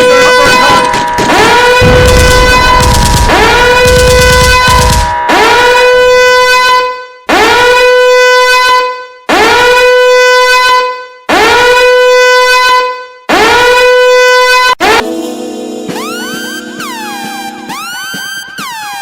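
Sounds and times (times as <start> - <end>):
loud horn-like blasts: 0.0 - 15.2.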